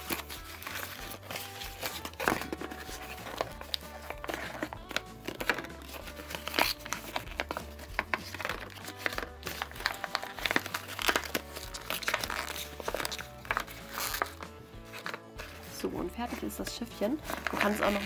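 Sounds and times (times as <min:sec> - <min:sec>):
paper crinkling: 0:00.0 - 0:16.6, 0:17.2 - 0:18.0.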